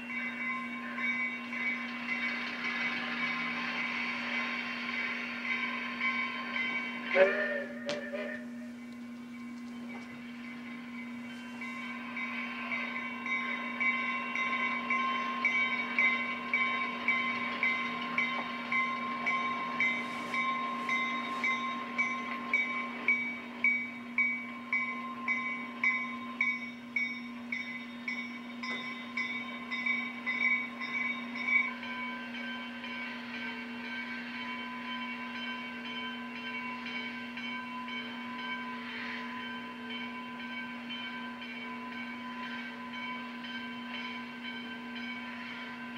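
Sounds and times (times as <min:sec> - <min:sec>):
locomotive bell ringing: 0:00.0 - 0:45.9.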